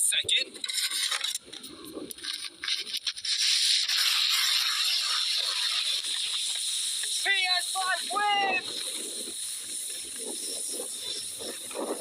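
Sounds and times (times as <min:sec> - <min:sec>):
object sliding over snow: 0:00.6 - 0:12.0.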